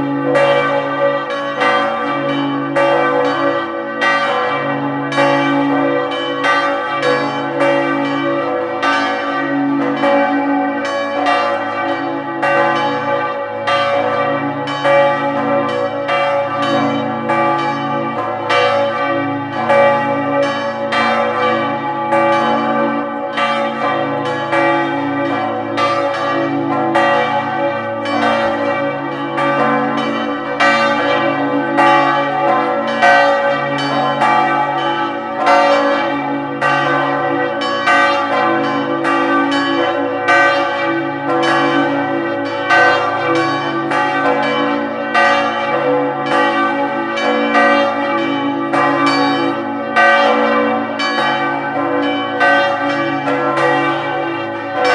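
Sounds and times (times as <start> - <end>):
church bells pealing: 0.0 - 54.9.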